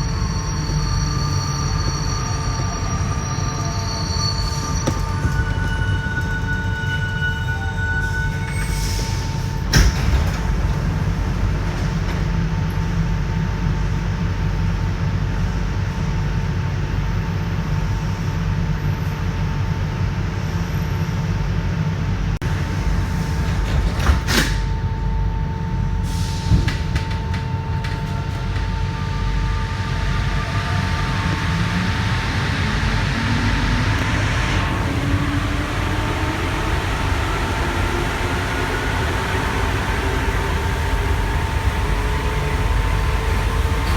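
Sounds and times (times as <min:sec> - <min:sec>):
train low rumble: 0:00.0 - 0:43.9.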